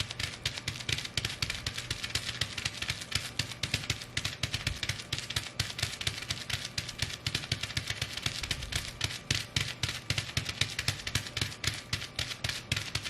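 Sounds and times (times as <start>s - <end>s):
bubble wrap popping: 0.0s - 13.0s.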